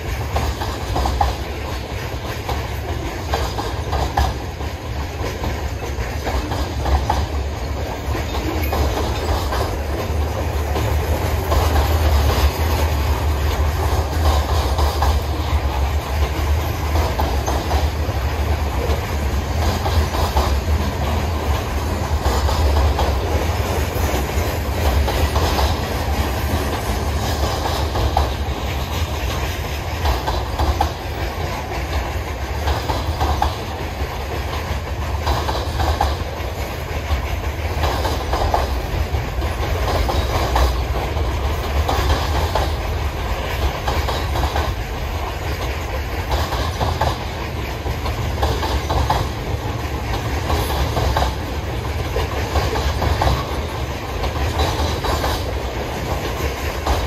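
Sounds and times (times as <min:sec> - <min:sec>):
train wheels rumbling on rails: 0:00.0 - 0:57.0
wheels clacking over rail joints: 0:00.0 - 0:57.0.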